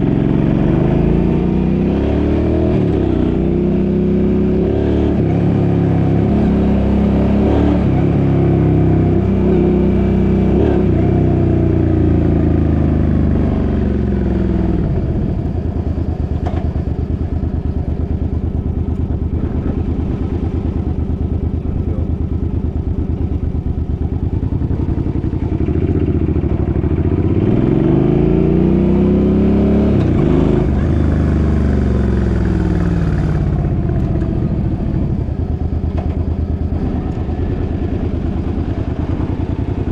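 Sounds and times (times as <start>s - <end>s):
engine revving and running: 0.0s - 16.7s, 24.6s - 39.9s.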